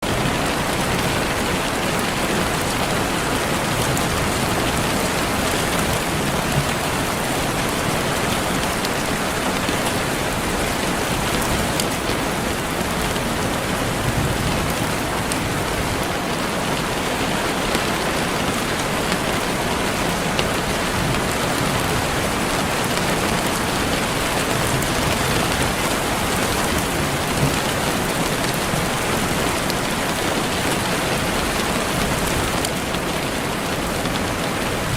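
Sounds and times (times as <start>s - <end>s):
steady rainfall: 0.0s - 34.9s
raindrops ticking on a surface: 0.1s - 34.9s.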